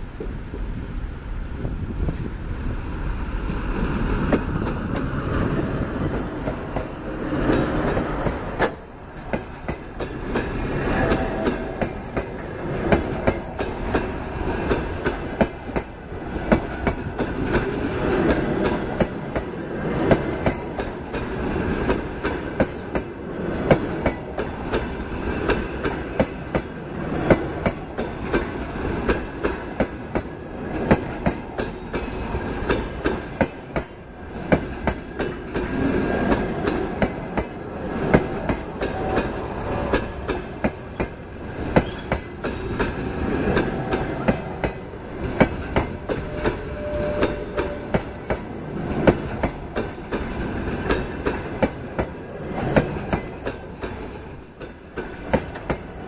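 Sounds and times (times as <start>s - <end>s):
train rolling rumble: 0.0s - 56.0s
wheels clicking over rail joints: 6.0s - 56.0s.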